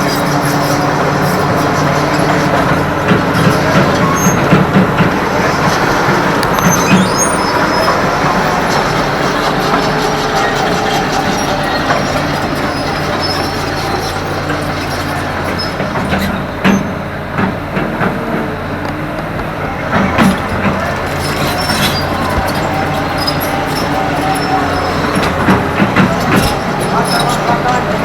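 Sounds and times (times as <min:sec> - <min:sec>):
high metallic squeaks: 0:00.0 - 0:17.1, 0:19.7 - 0:28.0
excavator diesel engine running: 0:00.0 - 0:28.0.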